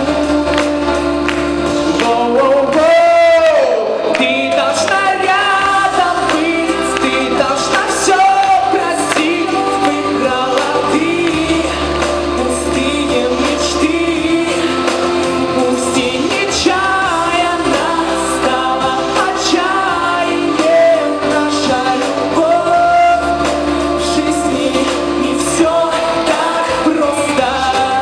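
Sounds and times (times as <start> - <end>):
instrumental backing music: 0.0 - 28.0
man singing into a microphone: 0.0 - 28.0.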